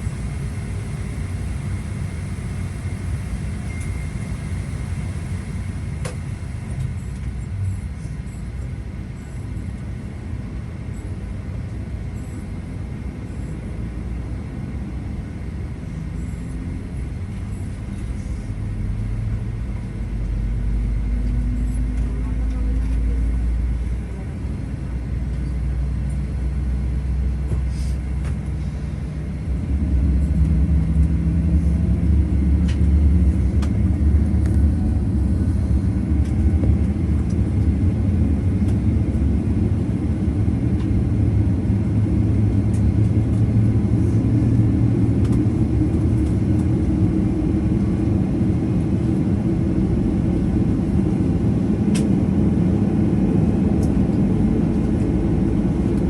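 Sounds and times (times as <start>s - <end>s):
aircraft cabin engine rumble: 0.0s - 56.0s.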